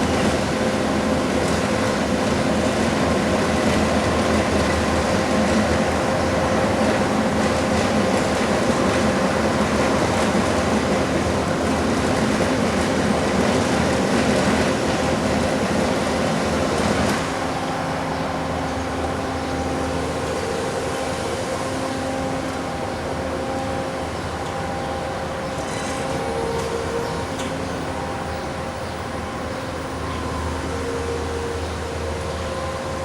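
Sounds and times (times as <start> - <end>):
heavy machine engines droning: 0.0 - 33.0.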